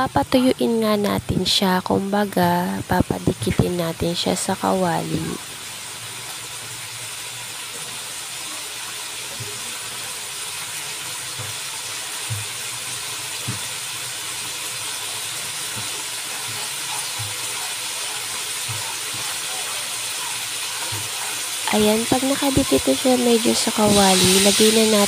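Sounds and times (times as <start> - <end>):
sauce sizzling in a wok: 0.0 - 25.0.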